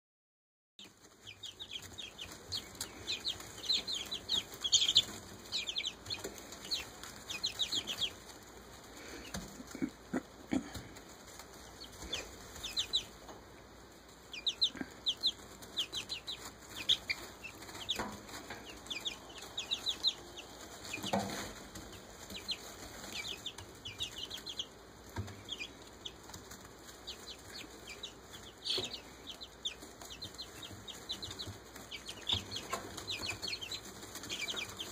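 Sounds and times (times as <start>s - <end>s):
chicks peeping: 0.8s - 34.9s.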